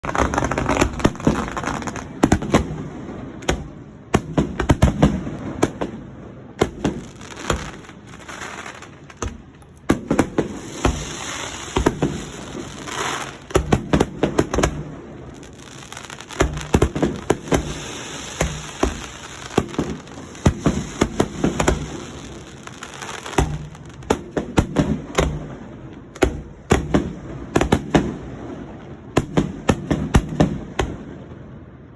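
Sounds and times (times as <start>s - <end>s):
fireworks crackling: 0.0s - 31.8s
fireworks booming: 0.0s - 31.9s.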